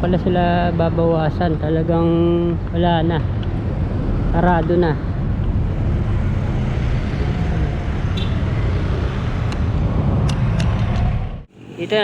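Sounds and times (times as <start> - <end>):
vehicle engine rumble: 0.0 - 11.8.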